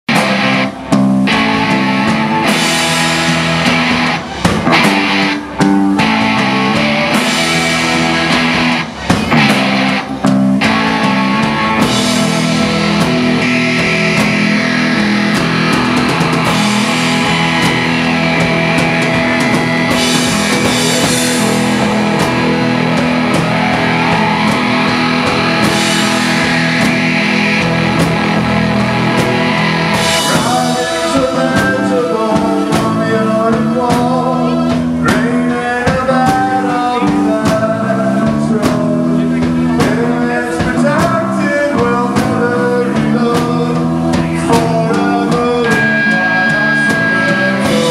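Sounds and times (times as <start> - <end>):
electric bass: 0.0 - 47.9
drum kit: 0.1 - 47.9
electric guitar: 0.1 - 47.9.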